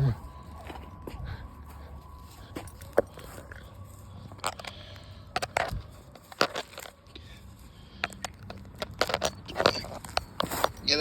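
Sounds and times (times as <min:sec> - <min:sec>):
weeds crunching and snapping: 0:01.7 - 0:11.0.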